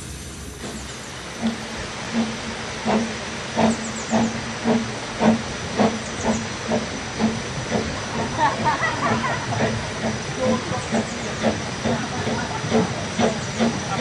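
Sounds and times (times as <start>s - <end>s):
steady steam hiss: 0.0s - 14.0s
steam locomotive exhaust beats: 0.0s - 14.0s.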